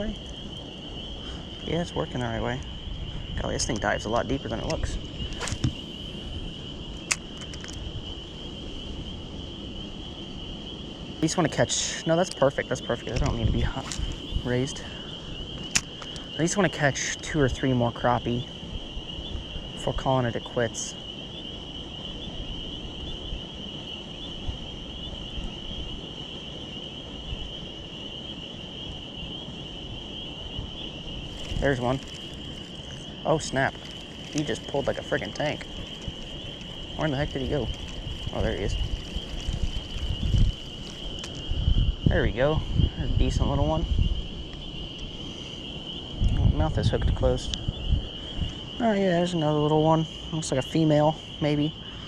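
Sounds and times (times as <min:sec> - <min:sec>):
insects trilling: 0:00.0 - 0:52.0
low wind rumble: 0:00.0 - 0:52.0.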